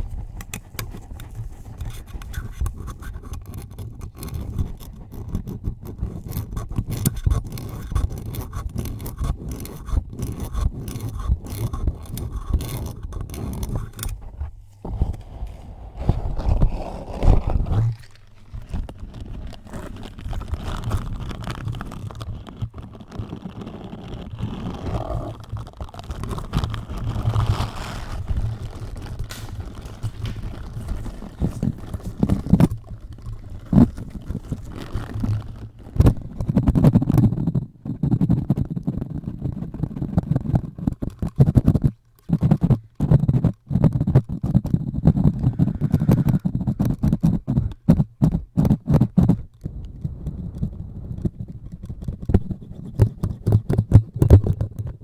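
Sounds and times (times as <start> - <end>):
microphone handling noise: 0.0 - 55.0.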